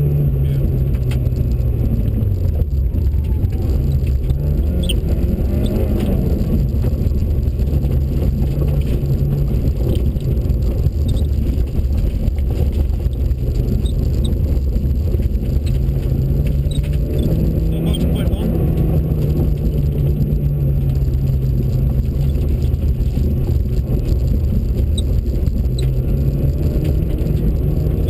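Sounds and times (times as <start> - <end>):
car engine pulling hard: 0.0 - 28.0
stones ticking: 0.8 - 28.0.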